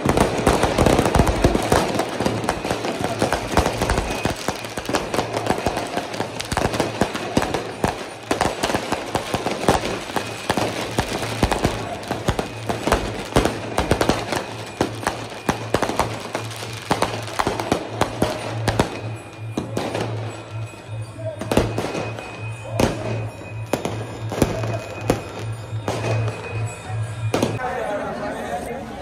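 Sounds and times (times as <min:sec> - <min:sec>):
fireworks bangs and crackles: 0:00.0 - 0:27.6.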